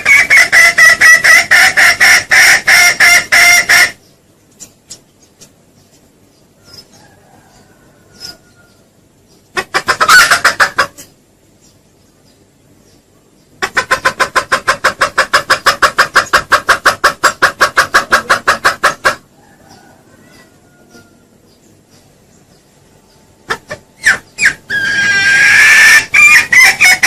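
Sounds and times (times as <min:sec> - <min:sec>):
junglefowl clucking: 0:00.0 - 0:05.5, 0:06.6 - 0:11.2, 0:13.5 - 0:22.1, 0:23.4 - 0:27.0.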